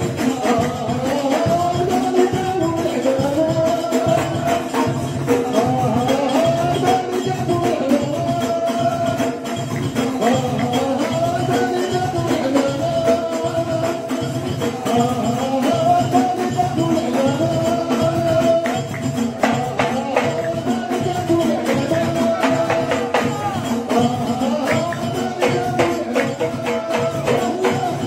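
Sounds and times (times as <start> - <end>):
frame drums beating: 0.0 - 28.0
men singing a chant: 0.0 - 28.0
tambourine jingling: 0.0 - 28.0.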